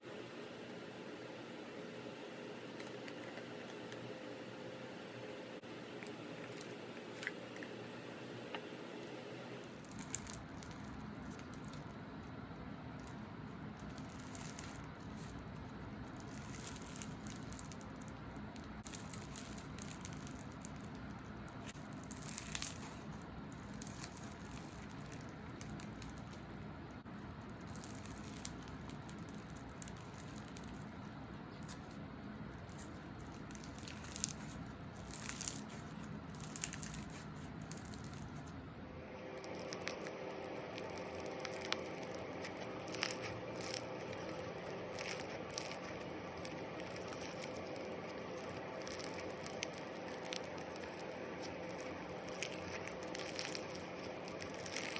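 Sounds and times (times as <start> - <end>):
slime squished by hands: 9.7 - 38.6, 39.2 - 54.9.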